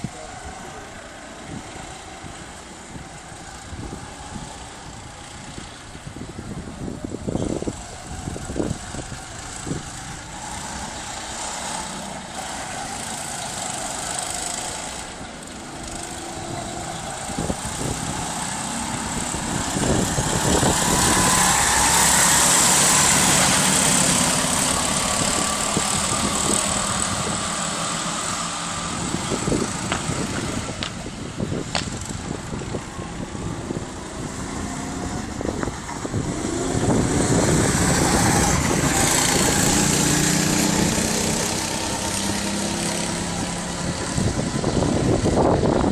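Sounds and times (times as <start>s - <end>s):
go-kart engines racing: 0.0s - 45.9s.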